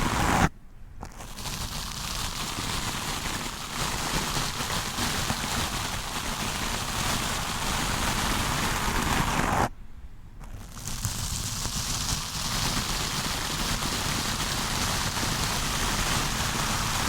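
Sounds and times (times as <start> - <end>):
brush scratching on microphone: 0.0 - 9.7, 10.4 - 17.0.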